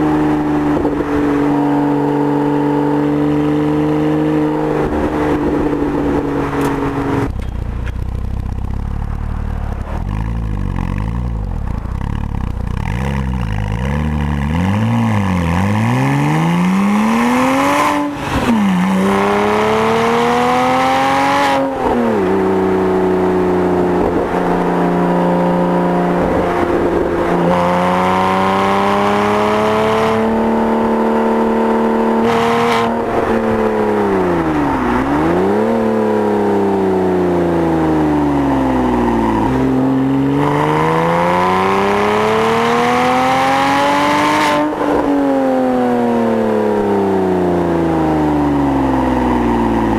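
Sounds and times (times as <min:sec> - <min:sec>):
car engine accelerating: 0:00.0 - 0:49.9.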